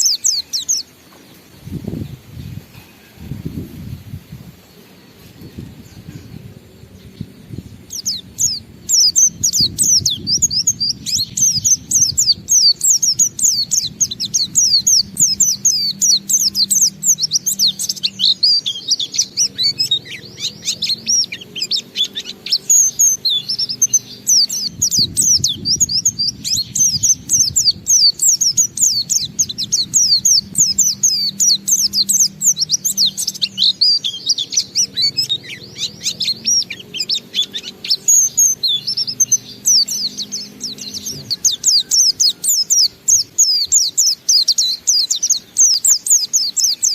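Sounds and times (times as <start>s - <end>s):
bird twittering song: 0.0s - 46.9s.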